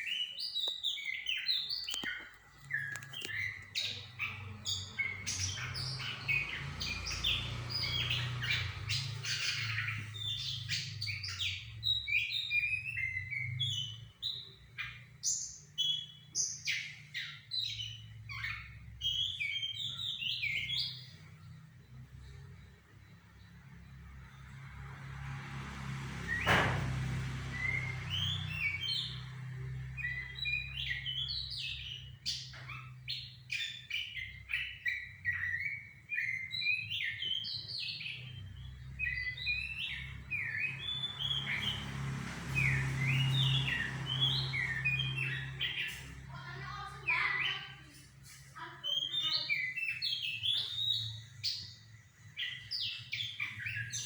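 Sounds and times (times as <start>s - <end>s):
bird chirping: 0.0s - 54.0s.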